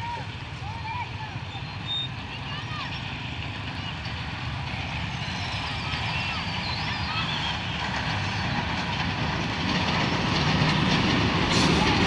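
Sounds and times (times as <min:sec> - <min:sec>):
locomotive engine rumble: 0:00.0 - 0:12.0.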